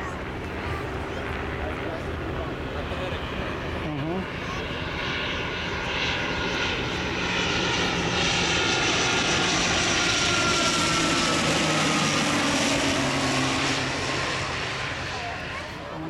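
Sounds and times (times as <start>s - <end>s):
propeller airliner passing overhead: 0.0s - 16.0s.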